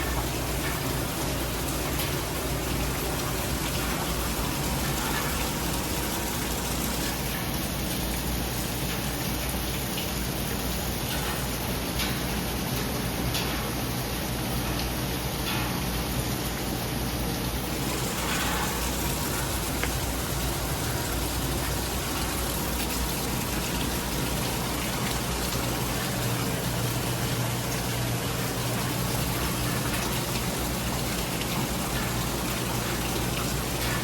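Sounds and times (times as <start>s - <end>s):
raindrops ticking: 0.0s - 16.8s, 17.6s - 34.0s
heavy rain pouring: 0.0s - 34.0s.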